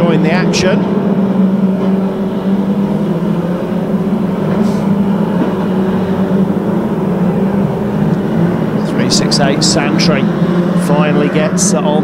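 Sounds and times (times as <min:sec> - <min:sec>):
racing car engines droning: 0:00.0 - 0:12.0.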